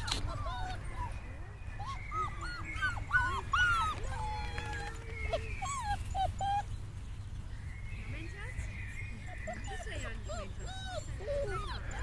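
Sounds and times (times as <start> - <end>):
puppies whining and yipping: 0.0 - 7.5, 8.9 - 12.0.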